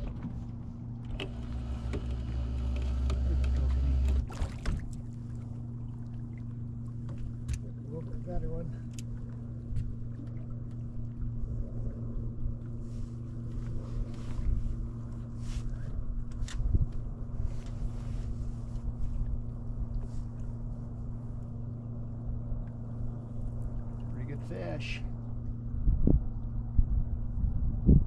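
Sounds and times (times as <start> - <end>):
boat motor humming: 0.0 - 27.3.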